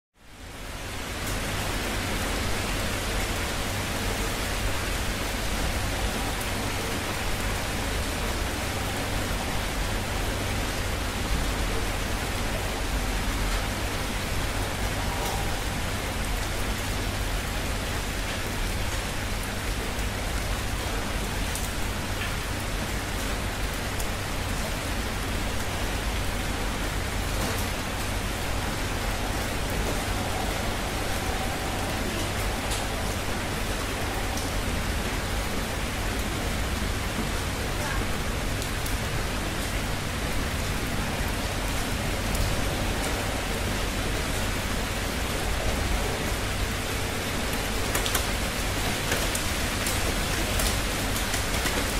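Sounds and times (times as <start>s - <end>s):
steady rain hiss: 0.2s - 51.9s.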